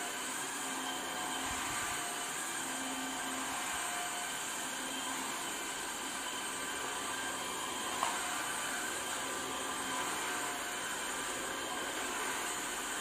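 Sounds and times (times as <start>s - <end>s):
stick vacuum cleaner running: 0.0s - 13.0s.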